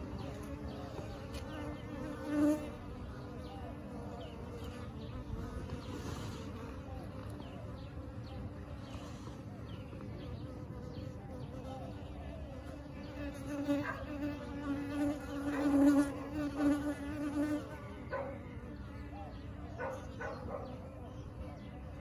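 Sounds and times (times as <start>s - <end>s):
bees buzzing: 0.0s - 19.3s
low buzz of bees flying close: 0.0s - 22.0s.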